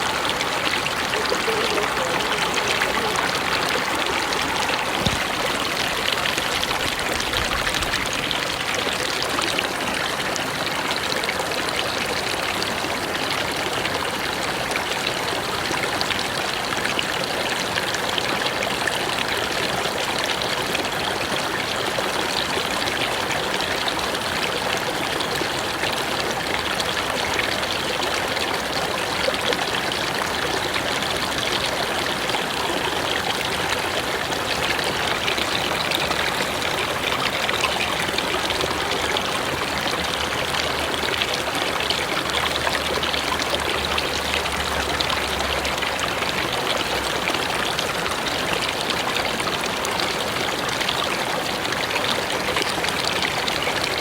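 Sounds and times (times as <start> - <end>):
river flowing: 0.0 - 54.0.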